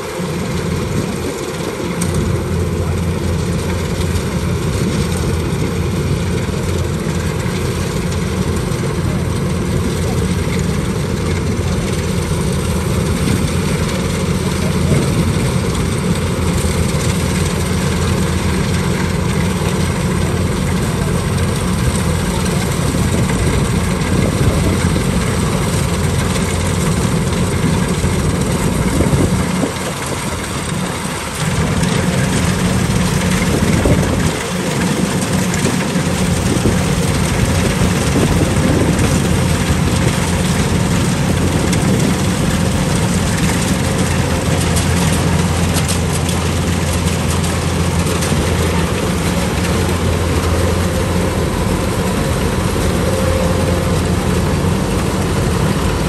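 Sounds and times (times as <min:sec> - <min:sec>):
combine harvester engine rumble: 0:00.0 - 0:56.0.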